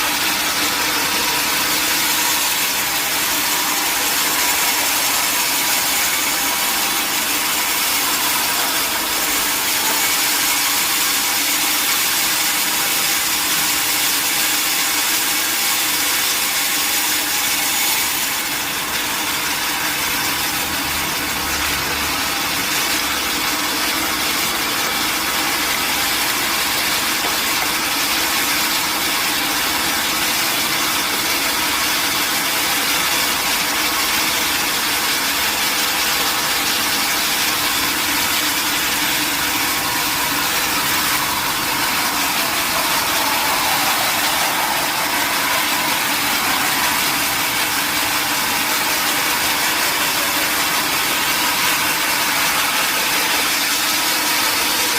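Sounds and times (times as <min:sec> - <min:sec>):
sawmill saw whirring: 0:00.0 - 0:54.9.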